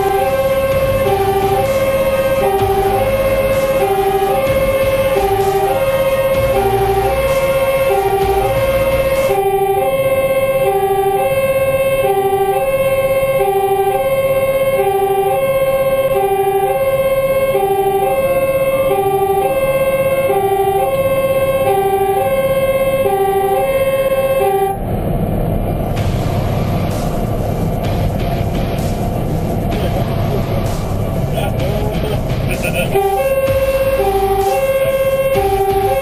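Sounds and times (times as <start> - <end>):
fire engine two-tone siren: 0.0 - 27.8, 32.9 - 36.0
road noise: 0.0 - 36.0
truck engine hum: 0.0 - 36.0.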